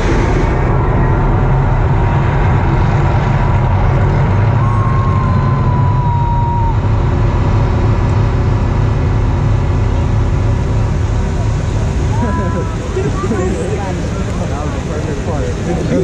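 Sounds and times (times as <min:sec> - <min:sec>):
loud low rumble: 0:00.0 - 0:16.0.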